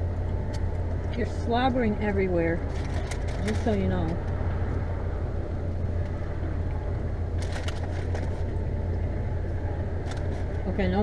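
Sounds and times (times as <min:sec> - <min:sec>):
van engine idling: 0:00.0 - 0:11.0.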